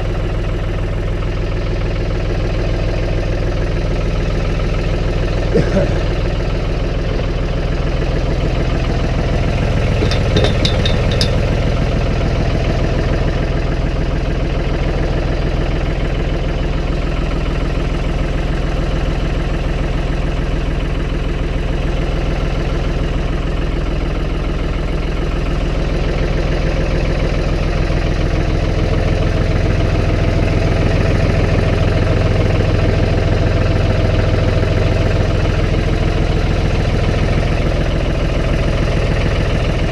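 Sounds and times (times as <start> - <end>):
vehicle engine running under load: 0.0 - 39.9.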